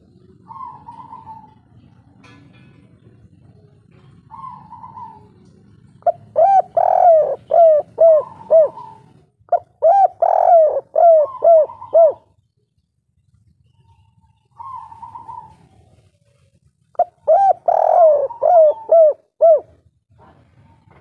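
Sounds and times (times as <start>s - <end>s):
dove cooing: 0.0s - 2.3s, 2.9s - 12.4s, 13.7s - 19.9s.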